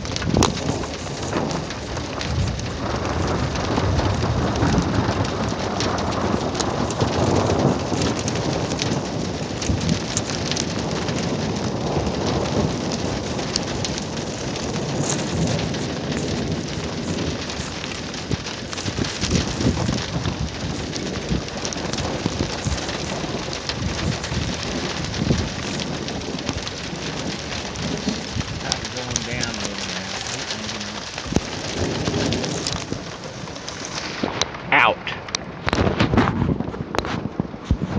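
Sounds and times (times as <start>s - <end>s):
low thunder rumbling: 0.0s - 37.9s
steady rain: 0.0s - 37.9s.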